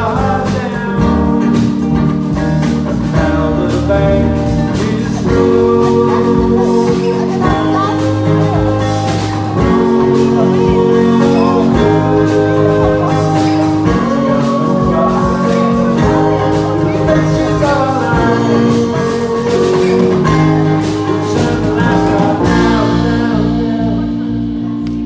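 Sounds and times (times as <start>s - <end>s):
drums and cymbals: 0.0s - 24.4s
live band playing: 0.0s - 25.0s
person singing lead vocal: 0.0s - 25.0s.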